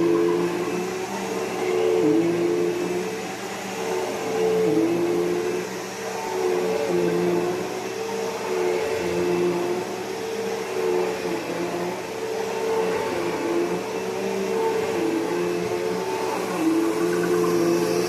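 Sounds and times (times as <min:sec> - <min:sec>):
upright vacuum cleaner whirring: 0:00.0 - 0:18.0.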